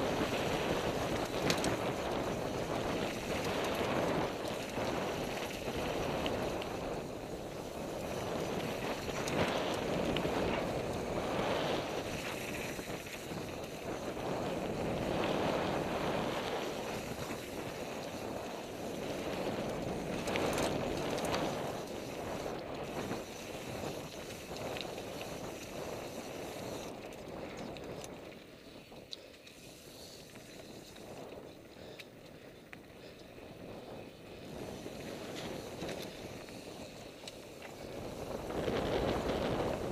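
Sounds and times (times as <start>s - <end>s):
wind on microphone: 0.0s - 28.9s, 30.5s - 39.9s
bike tyres on dirt: 0.0s - 39.9s.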